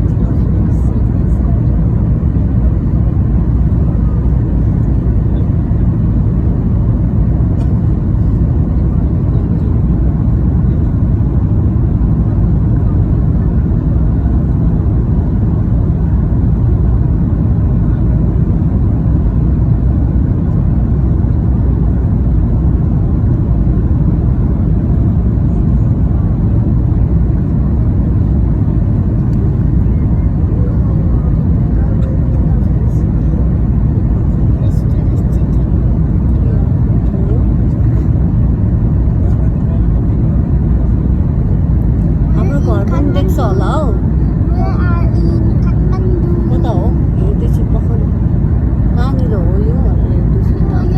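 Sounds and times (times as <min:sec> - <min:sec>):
airliner engine rumble in cabin: 0:00.0 - 0:50.9.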